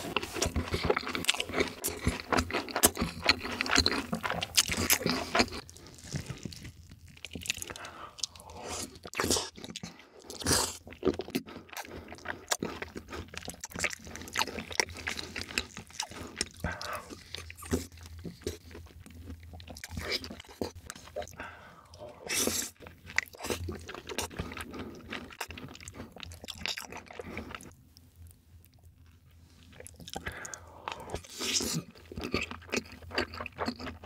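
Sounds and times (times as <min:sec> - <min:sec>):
crunching and chewing: 0:00.0 - 0:34.0.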